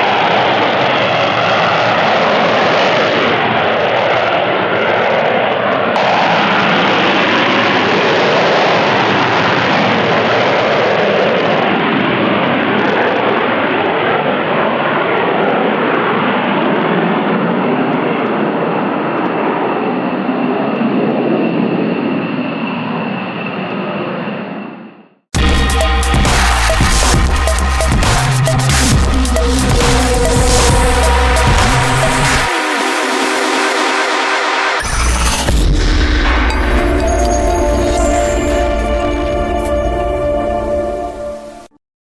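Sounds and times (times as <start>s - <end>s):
jet engine roar: 0.0s - 24.6s, 25.4s - 41.7s.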